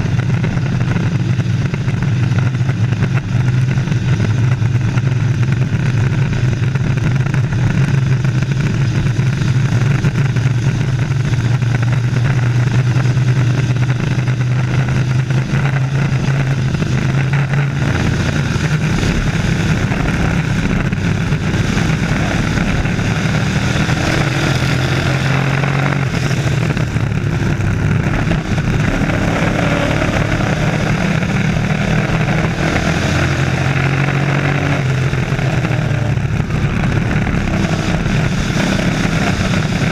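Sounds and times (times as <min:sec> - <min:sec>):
race truck engines: 0:00.0 - 0:39.9.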